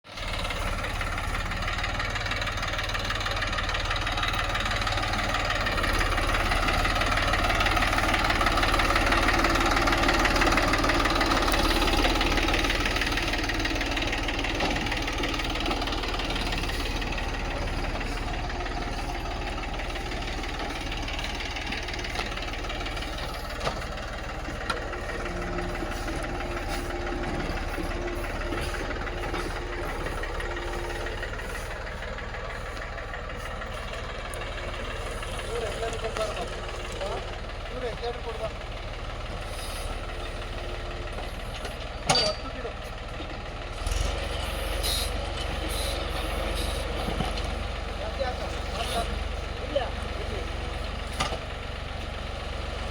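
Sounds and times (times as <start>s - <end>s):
tractor diesel engine knocking: 0.0s - 52.9s.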